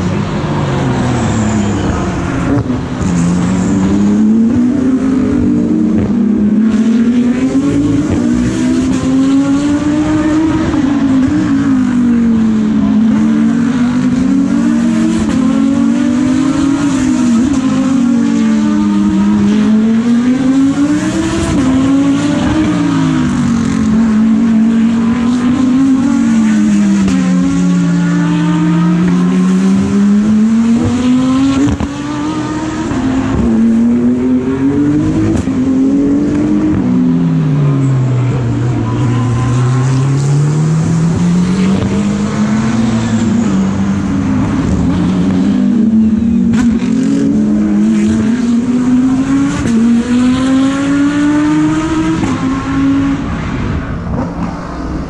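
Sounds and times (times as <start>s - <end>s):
race car engines accelerating and braking: 0.0s - 55.0s.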